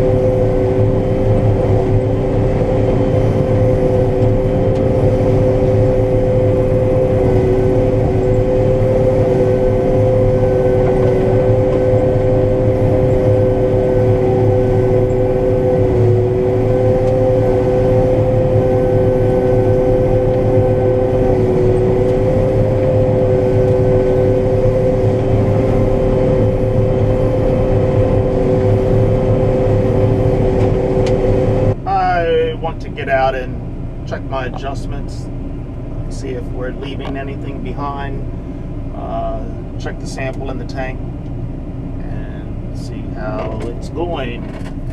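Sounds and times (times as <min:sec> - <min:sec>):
combine harvester rumble: 0:00.0 - 0:44.9
two-pitched whine: 0:00.0 - 0:44.9.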